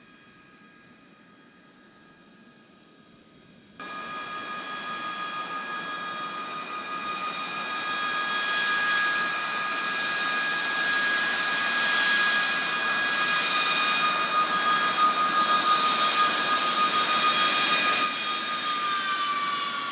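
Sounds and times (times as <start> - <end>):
jet engines whining: 3.8 - 19.9.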